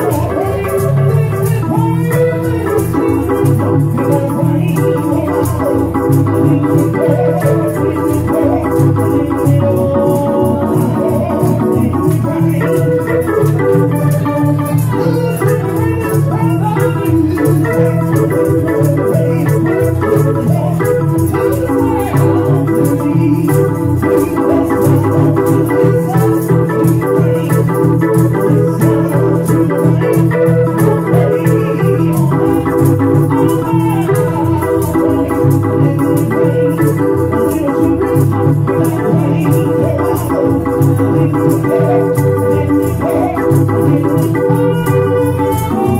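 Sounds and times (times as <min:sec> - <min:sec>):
hand rattle beat: 0:00.0 - 0:45.9
organ chords: 0:00.0 - 0:45.9
walking bass line: 0:00.0 - 0:45.9.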